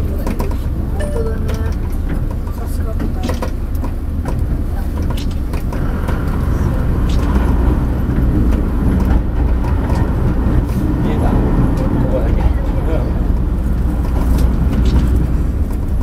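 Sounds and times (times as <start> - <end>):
railcar engine and wheels rumbling: 0.0 - 16.0.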